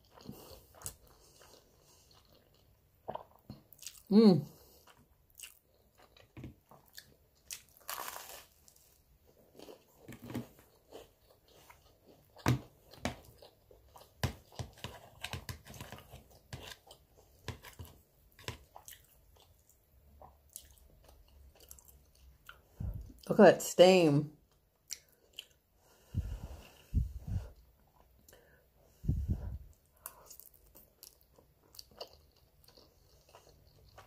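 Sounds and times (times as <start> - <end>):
person chewing wet food: 0.0 - 23.2, 24.4 - 34.0.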